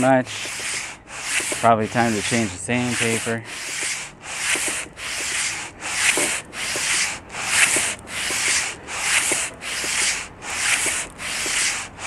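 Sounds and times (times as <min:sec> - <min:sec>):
sandpaper rasping on metal: 0:00.0 - 0:12.0.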